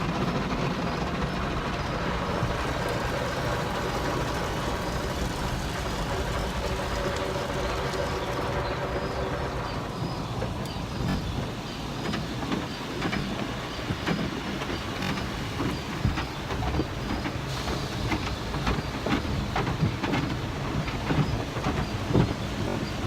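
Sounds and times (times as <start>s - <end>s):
car wash machinery rumbling: 0.0s - 23.0s.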